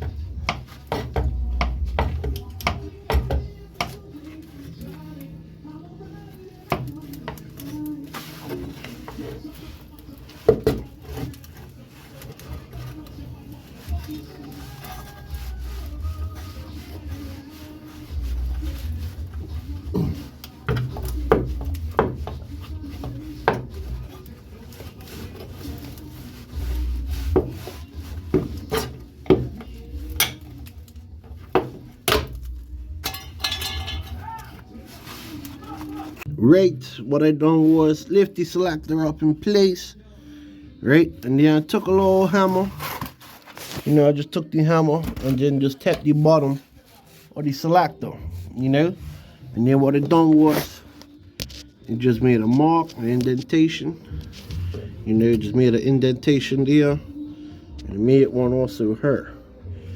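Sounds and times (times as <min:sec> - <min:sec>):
rubbing and handling noise: 0:00.0 - 0:36.6, 0:41.4 - 0:57.2
faint background music: 0:00.0 - 0:59.9.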